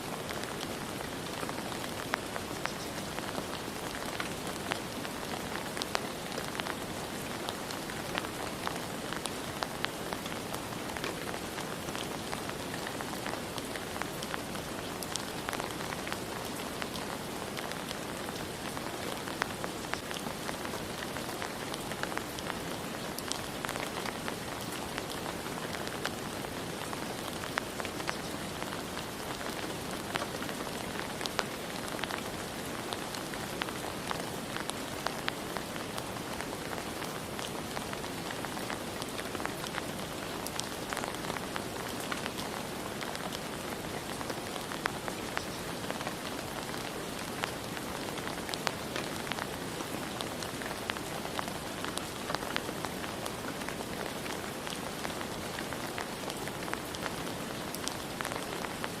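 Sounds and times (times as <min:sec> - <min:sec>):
rain falling: 0:00.0 - 0:59.0
raindrops ticking on hard surface: 0:00.2 - 0:59.0.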